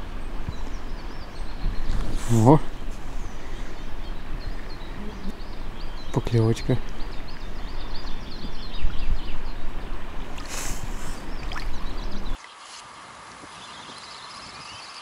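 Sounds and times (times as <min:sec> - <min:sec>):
wind buffeting microphone: 0:00.0 - 0:12.4
small birds chirping: 0:00.0 - 0:15.0.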